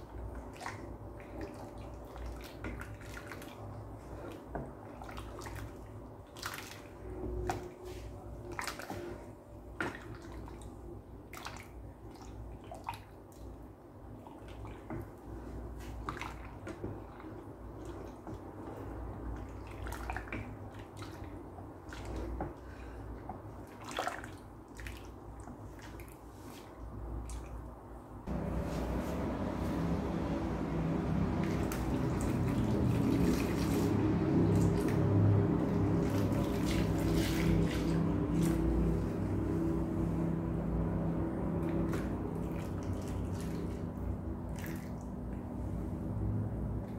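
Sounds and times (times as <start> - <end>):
liquid sloshing: 0.0 - 46.0.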